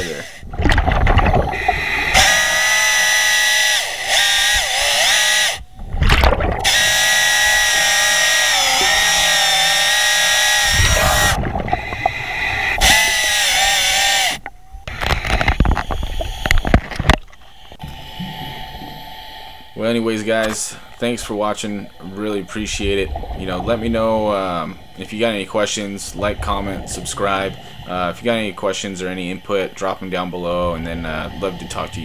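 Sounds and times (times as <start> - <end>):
rumbling bursts: 0.0 - 17.2, 17.8 - 32.0
underwater chainsaw whine: 0.0 - 32.0.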